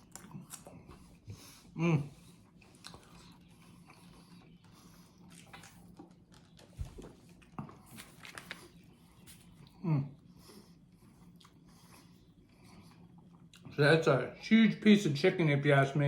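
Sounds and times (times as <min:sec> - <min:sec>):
person chewing crispy food: 0:00.0 - 0:09.8, 0:10.5 - 0:13.8.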